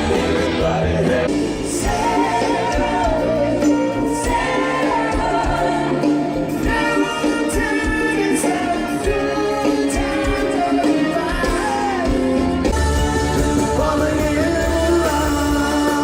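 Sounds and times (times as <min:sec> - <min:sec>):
choir-like singing with accompaniment: 0:00.0 - 0:16.0.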